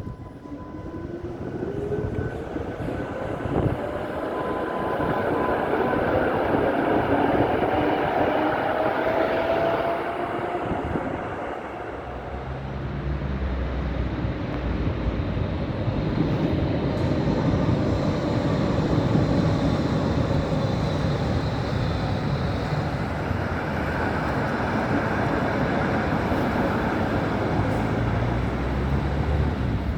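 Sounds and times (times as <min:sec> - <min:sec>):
tram wheels and motor rumble: 0:00.0 - 0:29.9.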